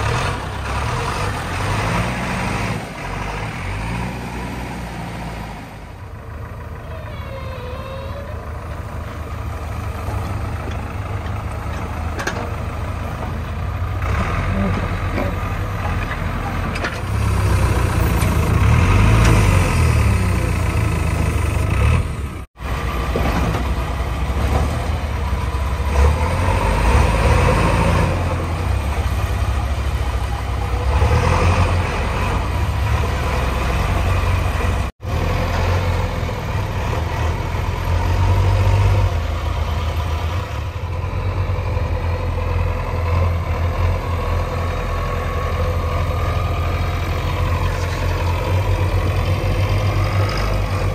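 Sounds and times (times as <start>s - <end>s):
backhoe diesel engines running: 0.0s - 50.9s.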